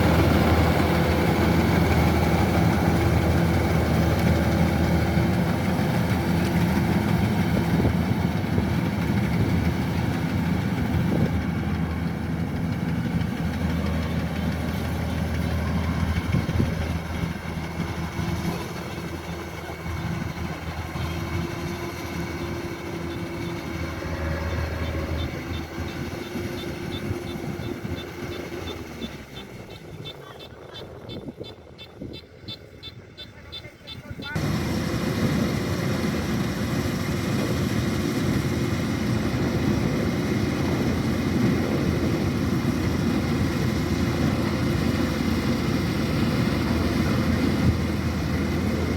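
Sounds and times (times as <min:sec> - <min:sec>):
combine harvester engine running: 0:00.0 - 0:48.9.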